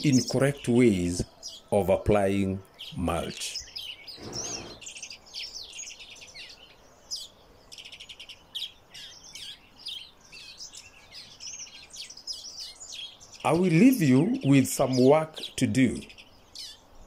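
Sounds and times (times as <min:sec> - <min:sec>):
birds chirping: 0:00.0 - 0:17.0
fast bird trill: 0:02.8 - 0:16.8.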